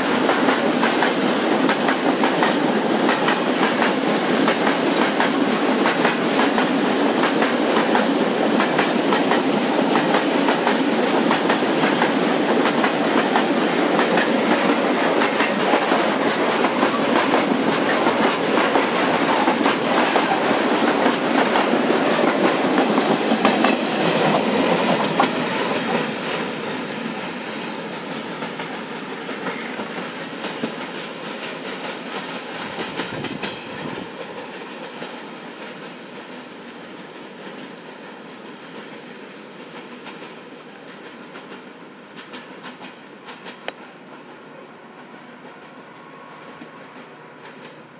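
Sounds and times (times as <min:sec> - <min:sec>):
freight train wheels clacking: 0:00.0 - 0:47.9.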